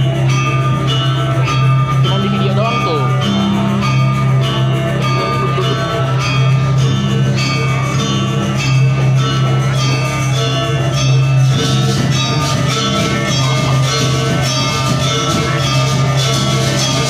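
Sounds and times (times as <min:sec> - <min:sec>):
bell-like mallet notes: 0:00.0 - 0:17.0.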